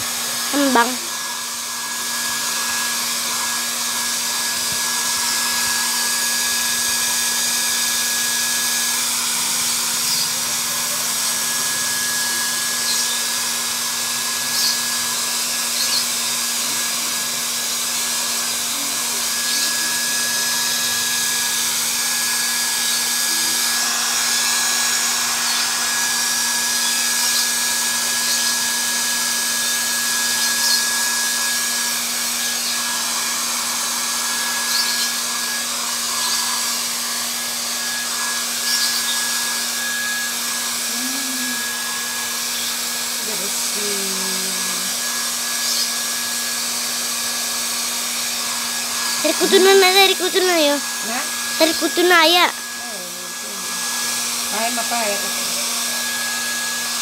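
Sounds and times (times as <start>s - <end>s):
blow dryer running: 0.0s - 57.0s.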